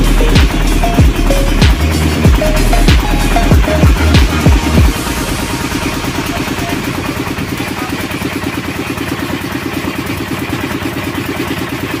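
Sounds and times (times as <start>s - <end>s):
machinery throbbing: 0.0s - 12.0s.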